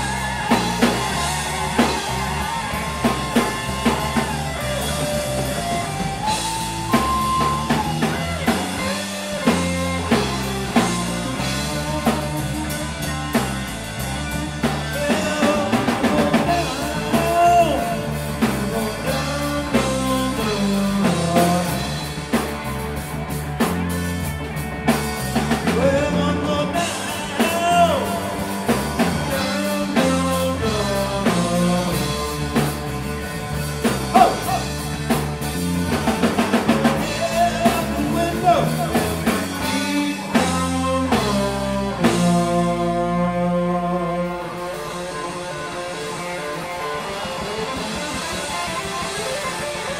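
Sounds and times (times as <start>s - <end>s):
bending lead guitar line: 0.0s - 49.9s
live rock band playing: 0.0s - 49.9s.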